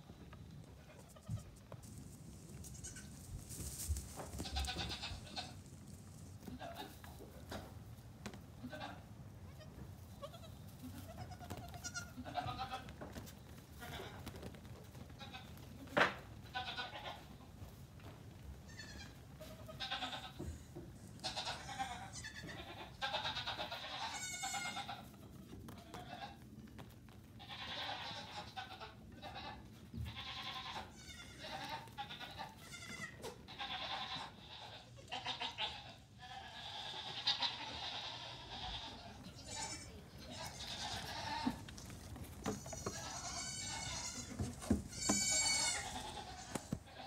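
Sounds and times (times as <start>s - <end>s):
goat kids bleating: 0.7s - 1.6s, 2.6s - 3.2s, 4.4s - 5.6s, 6.4s - 7.6s, 8.6s - 14.4s, 15.2s - 17.5s, 18.7s - 26.4s, 27.4s - 47.0s.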